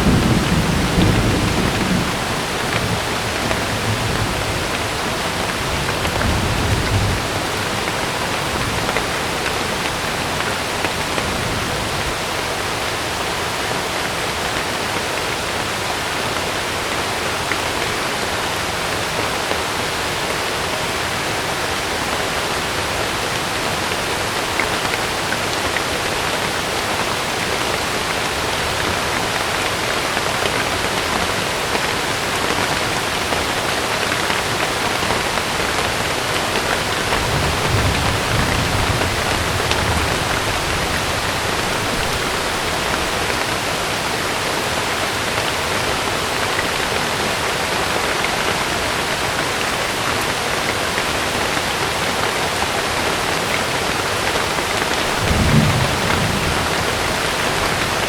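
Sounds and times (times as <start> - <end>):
heavy rain on tent fabric: 0.0 - 58.0.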